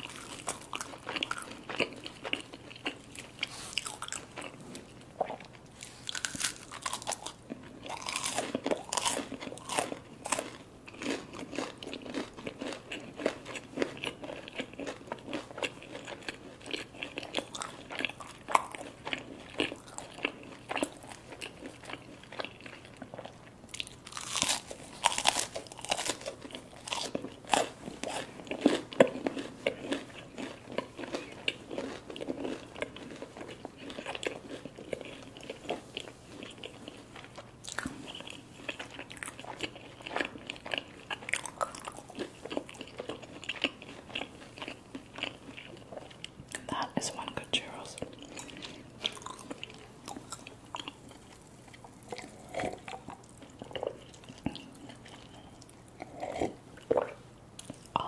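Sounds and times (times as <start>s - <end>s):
crunchy food chewing: 0.0s - 58.0s.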